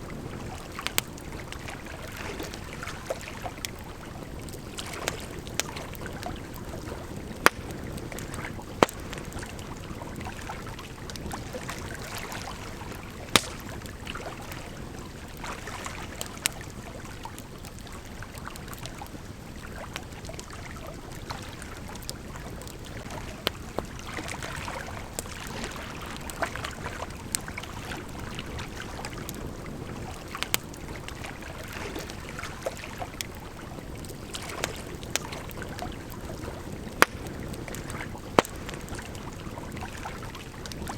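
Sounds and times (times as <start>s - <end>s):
river flowing: 0.0s - 18.6s, 19.6s - 40.9s
campfire crackling and popping: 0.0s - 40.9s.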